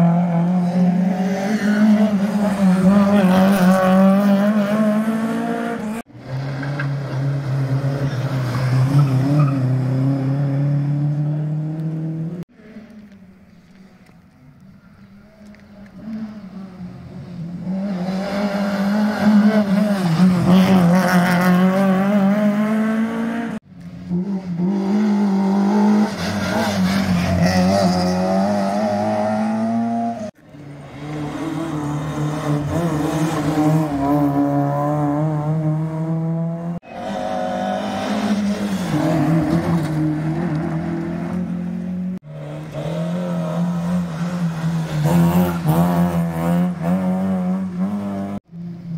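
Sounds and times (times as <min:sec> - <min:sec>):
rally car engines at high revs: 0:00.0 - 0:12.9, 0:16.0 - 0:48.9.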